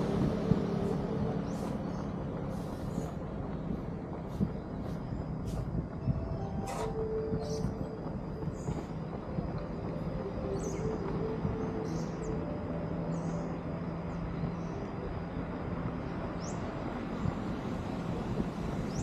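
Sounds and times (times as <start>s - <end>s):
low engine hum: 0.0s - 19.0s
traffic rumble: 0.0s - 19.0s.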